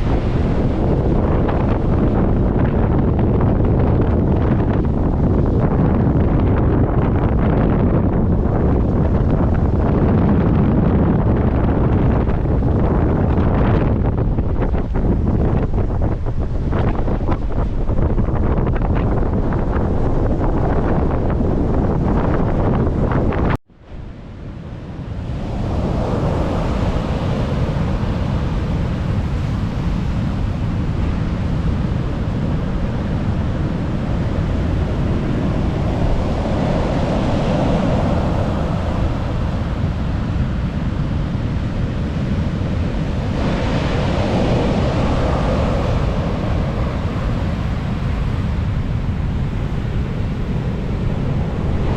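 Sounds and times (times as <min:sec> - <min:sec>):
sea waves breaking: 0:00.0 - 0:06.4, 0:08.4 - 0:51.9
wind rumble on microphone: 0:00.0 - 0:51.9.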